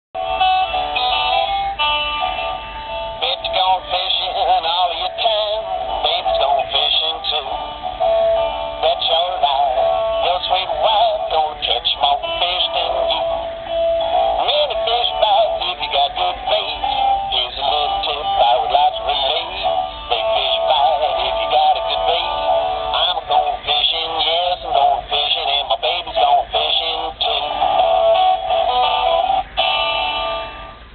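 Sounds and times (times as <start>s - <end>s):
person singing blues song: 3.2s - 7.8s, 8.8s - 29.4s.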